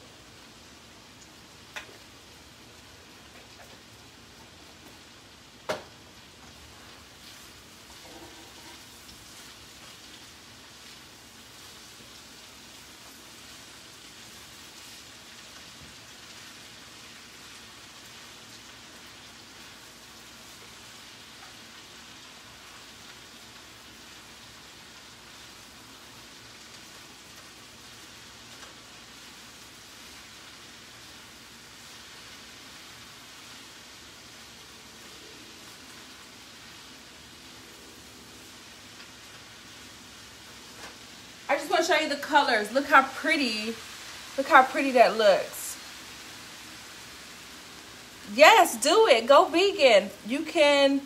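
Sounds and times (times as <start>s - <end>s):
vegetables sizzling in a frying pan: 0.0s - 51.0s.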